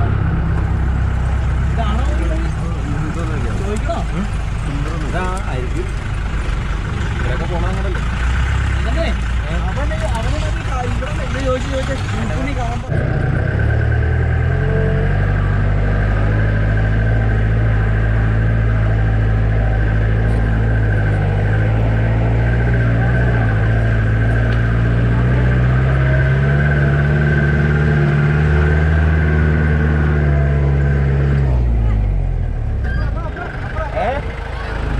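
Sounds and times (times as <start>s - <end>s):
car engine while driving: 0.0s - 34.9s.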